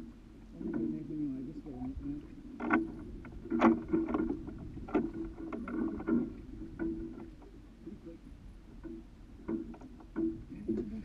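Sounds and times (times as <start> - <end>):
water slapping against boat hull: 0.0 - 11.0.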